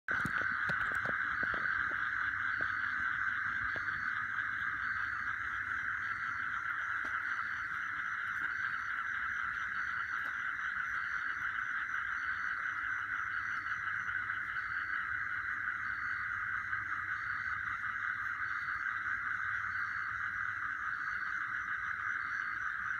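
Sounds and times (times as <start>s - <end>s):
insects trilling: 0.1s - 22.9s.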